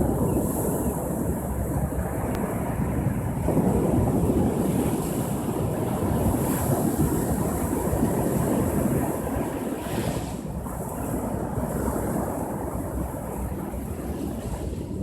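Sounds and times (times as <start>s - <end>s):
ocean waves breaking on shore: 1.2s - 15.0s.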